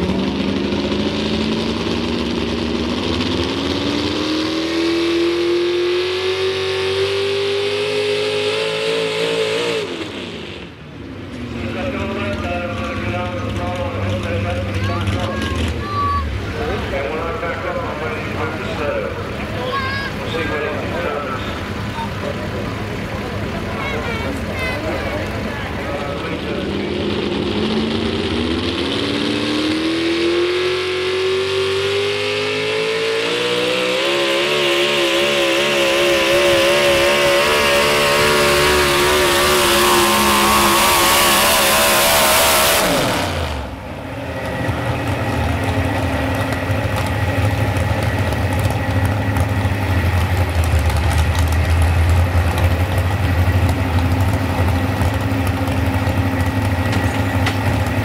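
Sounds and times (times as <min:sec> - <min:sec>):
low steady engine rumble: 0:00.0 - 0:08.6, 0:09.8 - 0:58.0
truck engine at full throttle: 0:00.0 - 0:58.0.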